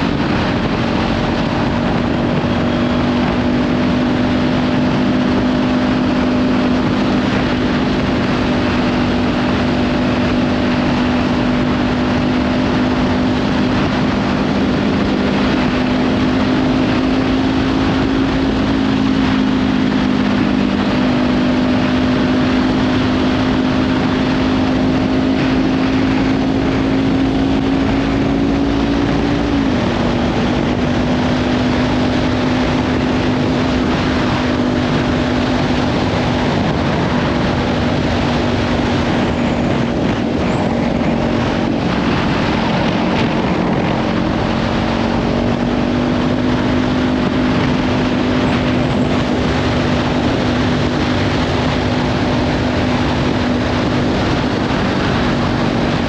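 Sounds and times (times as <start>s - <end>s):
motorcycle engine cruising: 0.0s - 56.0s
wind noise on microphone: 0.0s - 56.0s.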